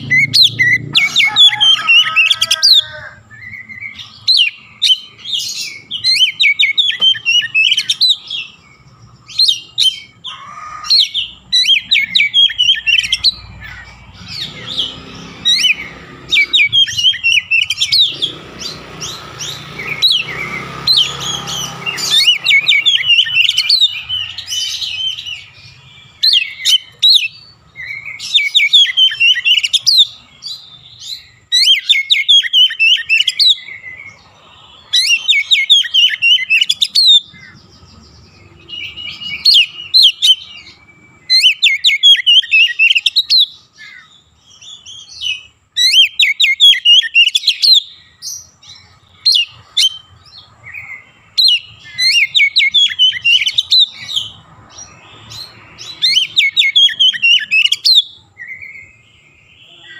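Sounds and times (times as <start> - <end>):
bird singing chattering notes: 0.0 - 59.9.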